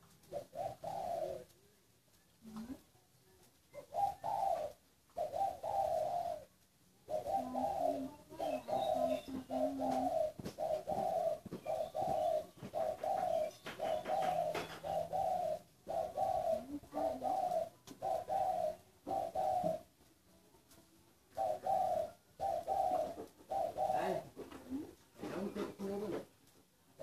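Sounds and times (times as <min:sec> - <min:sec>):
doves cooing: 0:00.0 - 0:27.0.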